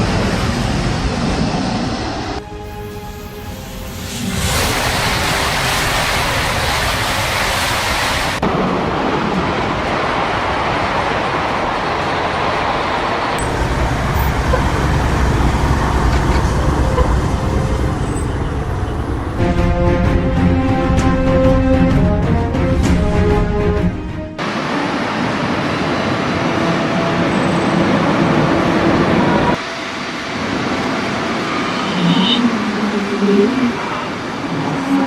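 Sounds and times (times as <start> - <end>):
deep train rumble: 0.0 - 35.0
high-speed train rushing: 0.0 - 35.0.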